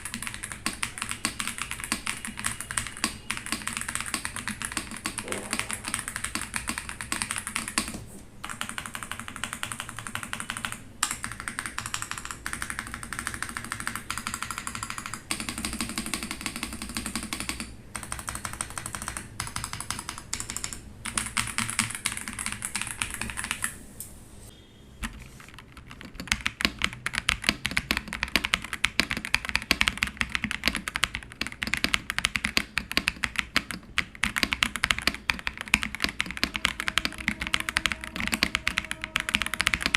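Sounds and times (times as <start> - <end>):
mechanical keyboard typing: 0.0 - 23.8, 25.0 - 39.9.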